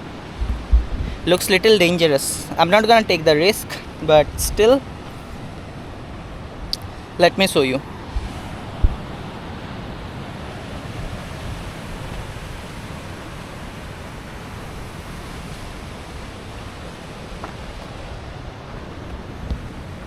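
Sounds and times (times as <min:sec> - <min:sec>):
wind buffeting microphone: 0:00.0 - 0:07.2, 0:07.8 - 0:20.0
ocean waves washing in: 0:00.0 - 0:20.0.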